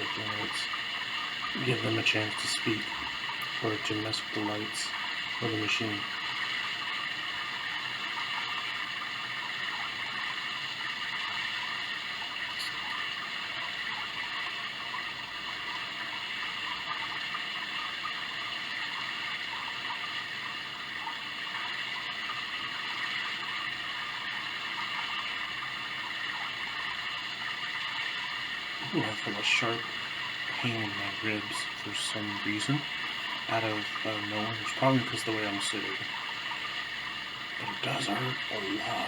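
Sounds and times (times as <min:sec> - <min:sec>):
sound machine steady hiss: 0:00.0 - 0:39.0.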